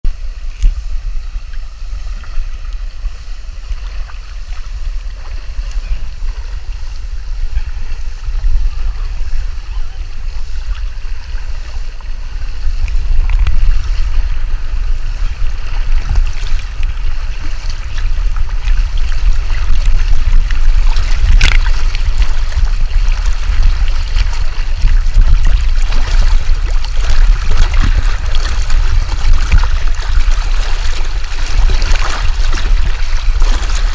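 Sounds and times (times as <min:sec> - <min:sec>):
water rushing and splashing: 0:00.1 - 0:33.9.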